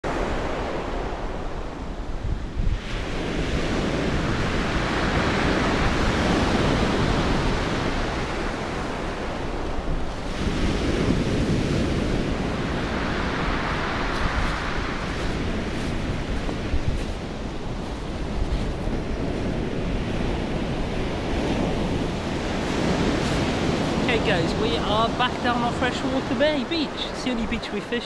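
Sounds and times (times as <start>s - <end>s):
wind rumbling on microphone: 0.0s - 28.0s
waves breaking on shingle beach: 2.7s - 28.0s.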